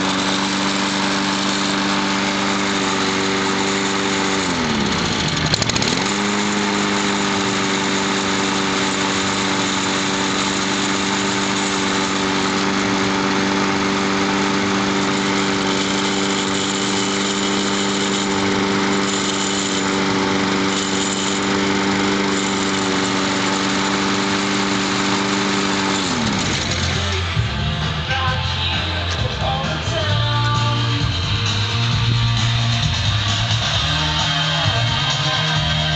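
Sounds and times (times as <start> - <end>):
lawn mower engine running: 0.0 - 35.9.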